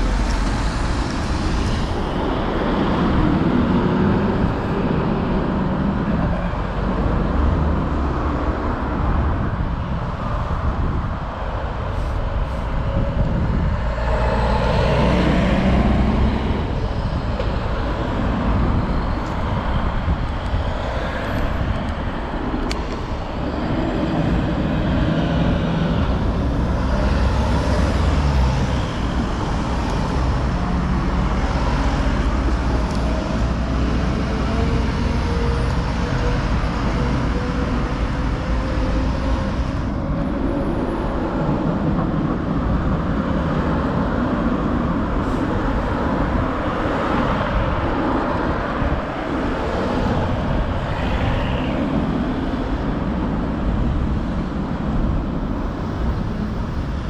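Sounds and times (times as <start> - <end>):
cars and buses driving past: 0.0 - 57.0
low traffic rumble: 0.0 - 57.0.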